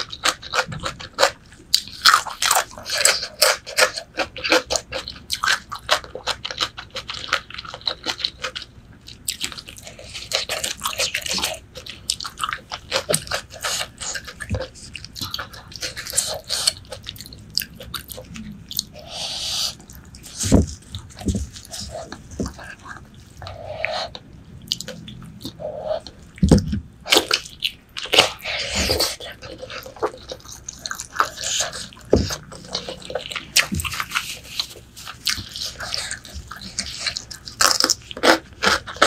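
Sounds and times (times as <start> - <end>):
wet chewing and smacking: 0.0 - 39.0.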